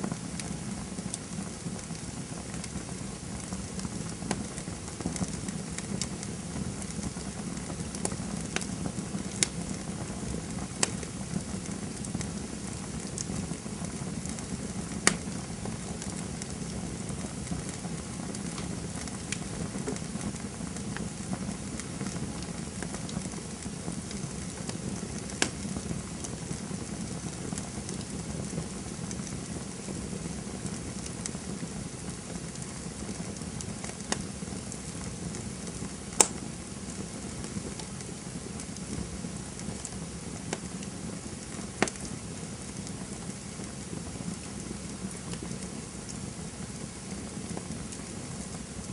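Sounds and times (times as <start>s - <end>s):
campfire hissing: 0.0s - 48.9s
fire crackling and popping: 0.0s - 48.9s.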